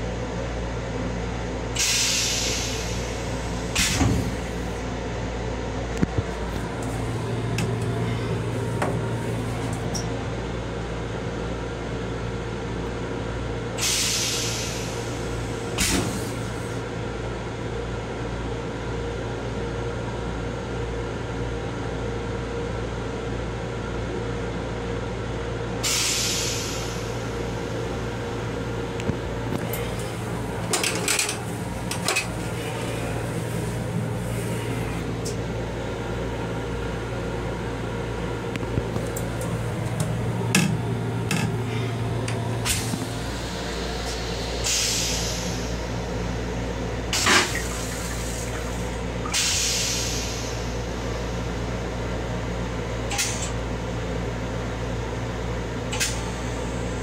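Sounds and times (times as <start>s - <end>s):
railcar hum and rumble: 0.0s - 57.0s.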